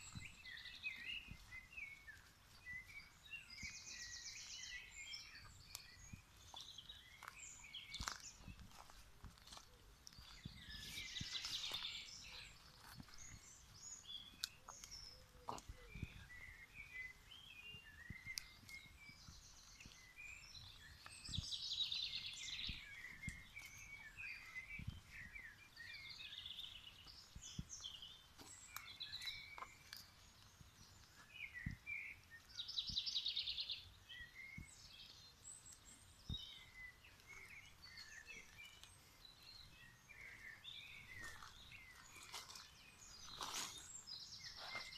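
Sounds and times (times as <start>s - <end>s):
songbirds singing and chirping: 0.0s - 44.9s.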